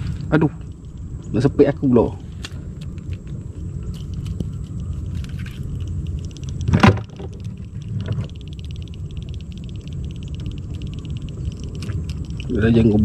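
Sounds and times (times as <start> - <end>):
fast fine ticking: 0.0 - 13.0
low rumble: 0.0 - 13.0.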